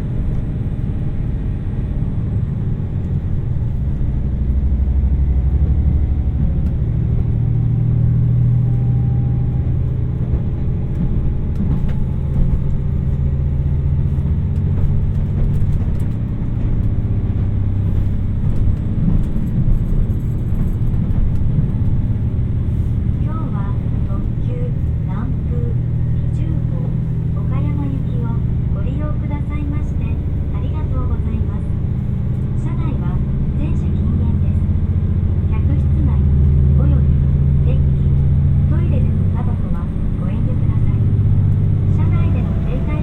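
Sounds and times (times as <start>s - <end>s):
diesel engine drone: 0.0s - 43.0s
wheel and rail rumble: 0.0s - 43.0s.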